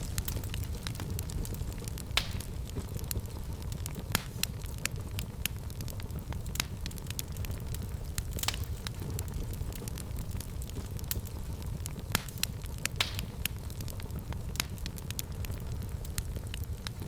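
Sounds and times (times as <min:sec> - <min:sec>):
fire crackles and pops: 0:00.0 - 0:17.0
fire rumbling: 0:00.0 - 0:17.0.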